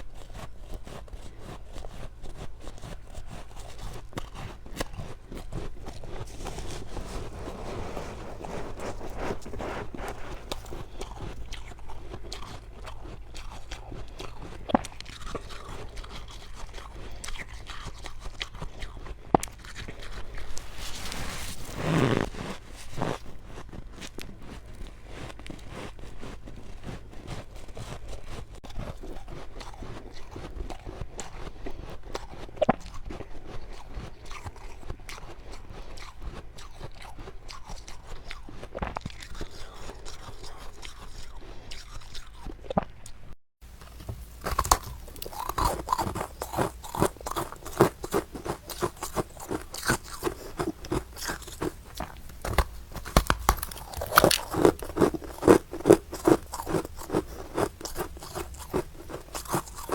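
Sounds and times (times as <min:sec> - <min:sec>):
crunching and chewing ice: 0:00.0 - 0:59.9.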